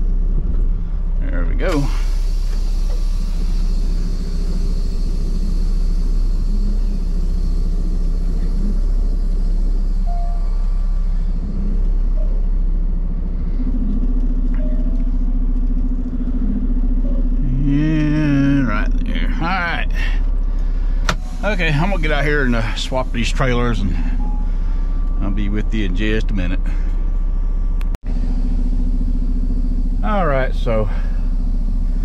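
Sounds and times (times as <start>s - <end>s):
diesel truck engine rumbling: 0.0s - 32.0s
steady high hum: 0.0s - 32.0s.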